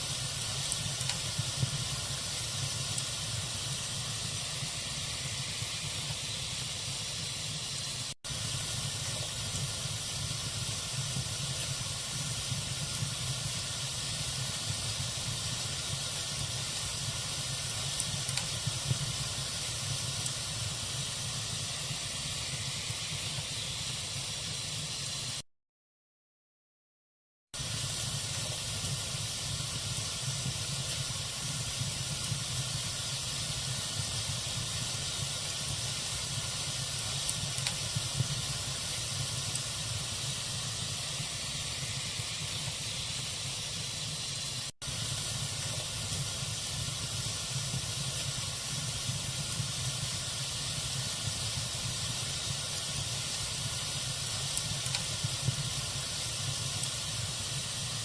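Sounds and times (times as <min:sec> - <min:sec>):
log fire crackling: 0:00.0 - 0:24.6, 0:27.6 - 0:58.0.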